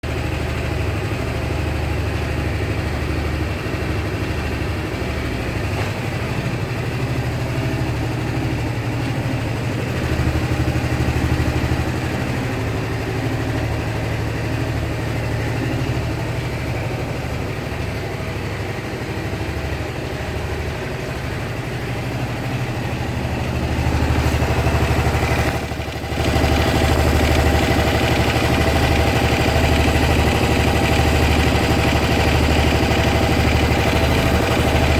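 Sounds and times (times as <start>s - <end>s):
scooter engine idling with ticking: 0.0s - 34.9s.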